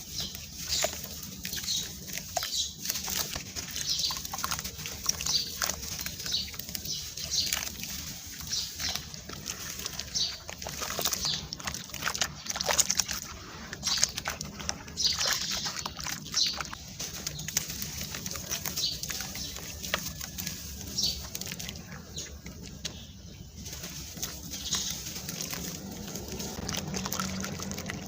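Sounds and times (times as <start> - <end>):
cement chunks crunching: 0.0 - 28.0.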